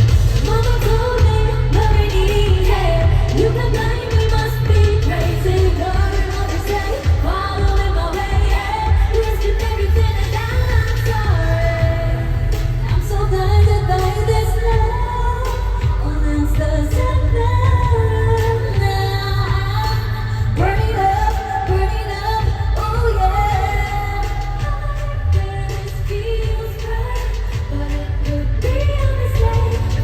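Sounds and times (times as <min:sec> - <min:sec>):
heavy bass beat: 0:00.0 - 0:30.0
pop song sung live: 0:00.0 - 0:30.0.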